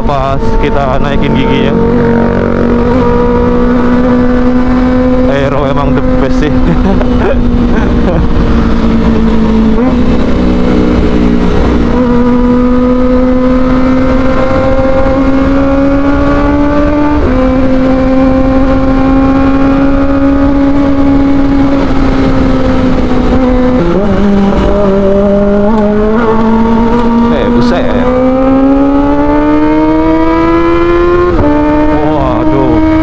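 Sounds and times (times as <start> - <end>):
motorcycle engine revving through gears: 0.0 - 33.0.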